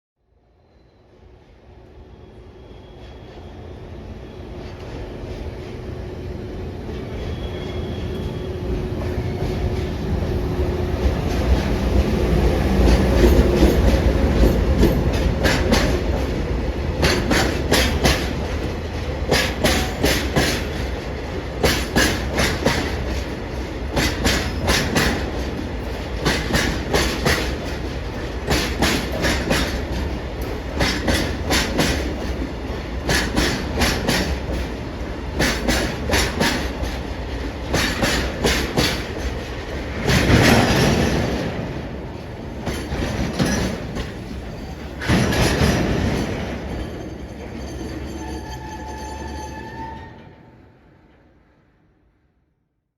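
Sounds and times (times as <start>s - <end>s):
train low rumble: 1.3s - 51.7s.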